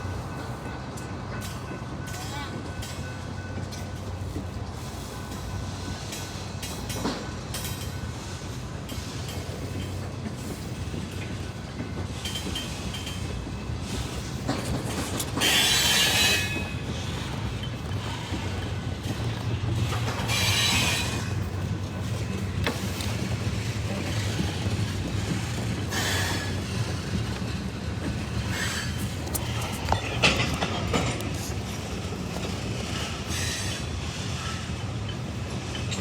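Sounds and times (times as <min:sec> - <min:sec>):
diesel locomotive engine humming: 0:00.0 - 0:36.0
train rolling on rails: 0:00.0 - 0:36.0.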